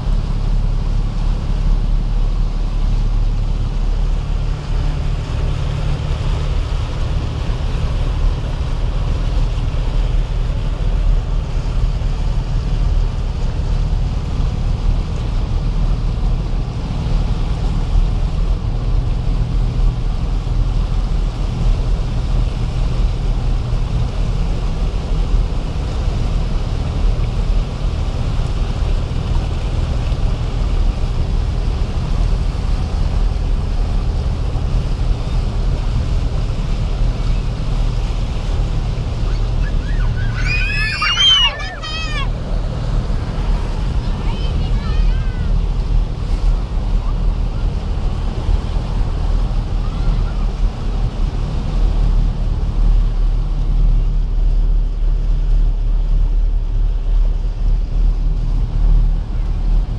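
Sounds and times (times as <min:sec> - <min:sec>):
engine droning in cabin: 0:00.0 - 0:59.9
water rushing around vehicle: 0:00.0 - 0:59.9.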